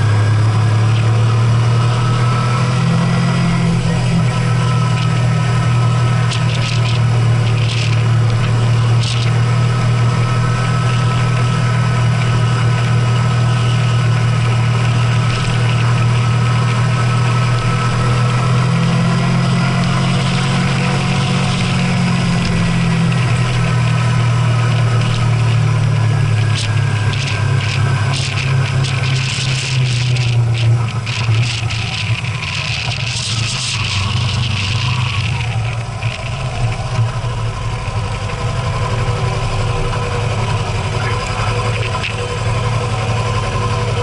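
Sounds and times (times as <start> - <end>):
vehicle engine humming: 0.0 - 44.0.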